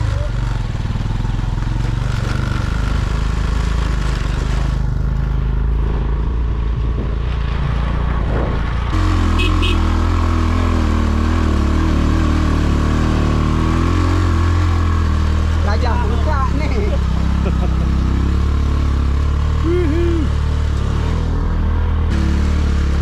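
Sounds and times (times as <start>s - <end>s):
motorbike engine running: 0.0s - 5.8s, 9.0s - 23.0s.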